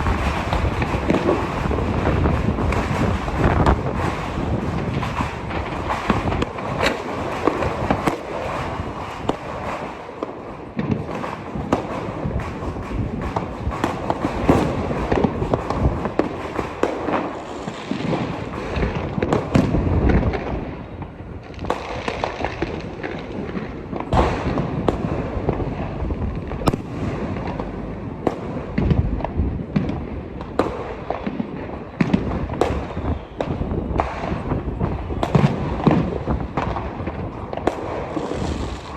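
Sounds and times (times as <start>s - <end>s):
fireworks crackling: 0.0s - 38.9s
loud firework bangs: 0.0s - 38.9s.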